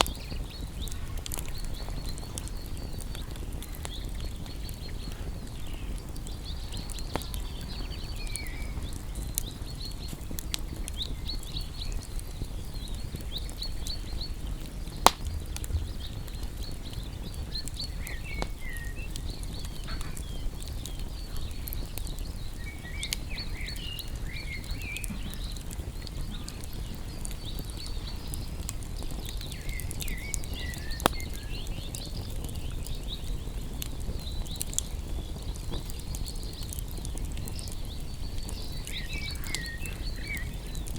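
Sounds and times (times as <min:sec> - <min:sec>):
campfire crackling and popping: 0:00.0 - 0:40.9
small birds chirping: 0:00.0 - 0:40.9.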